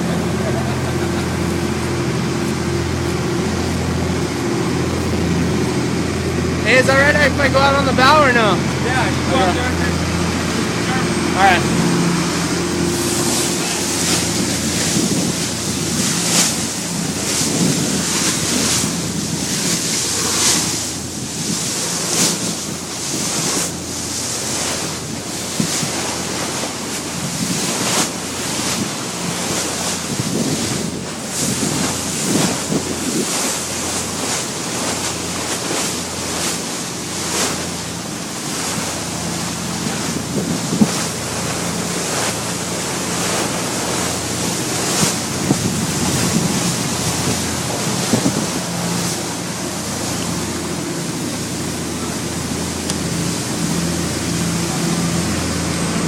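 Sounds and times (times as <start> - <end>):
wind buffeting microphone: 0.0 - 23.9, 24.5 - 36.5, 37.2 - 56.0
water splashing against boat hull: 0.0 - 56.0.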